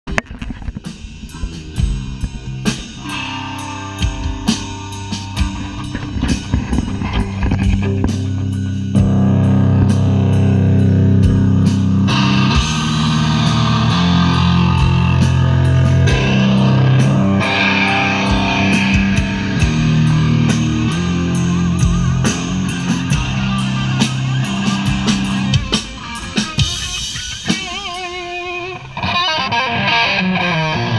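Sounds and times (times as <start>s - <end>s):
bass guitar: 0.0s - 30.9s
electric guitar: 0.1s - 30.9s
drum kit cymbal beat: 0.8s - 29.0s.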